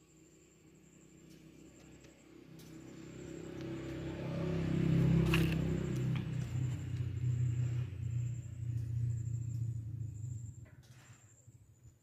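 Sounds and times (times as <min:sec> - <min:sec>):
vehicle engine running: 0:00.8 - 0:12.0.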